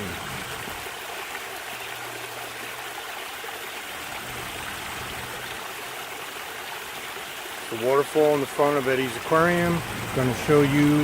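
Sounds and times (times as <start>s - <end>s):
water splashing down waterfall: 0.0s - 11.0s.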